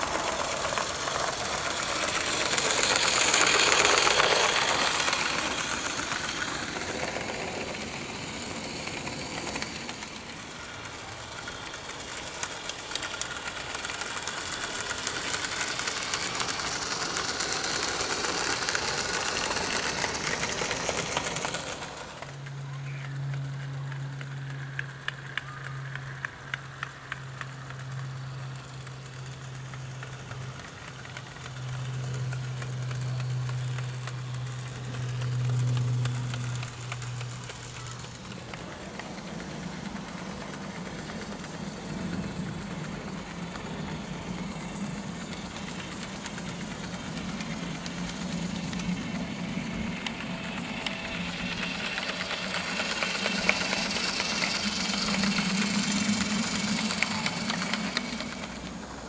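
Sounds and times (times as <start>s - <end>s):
hiss: 0.0s - 22.2s, 27.8s - 59.0s
model locomotive humming: 0.0s - 59.0s
wheels clicking on rail joints: 0.0s - 59.0s.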